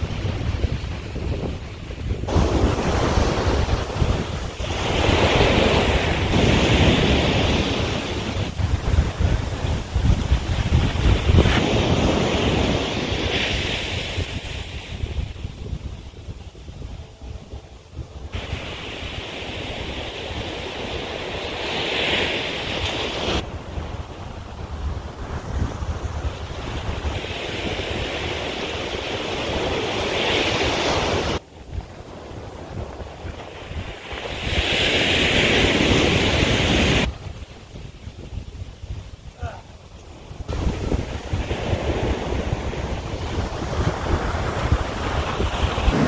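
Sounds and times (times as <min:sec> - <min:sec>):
ocean surf rushing: 0:00.0 - 0:46.0
wind buffeting microphone: 0:00.0 - 0:46.0.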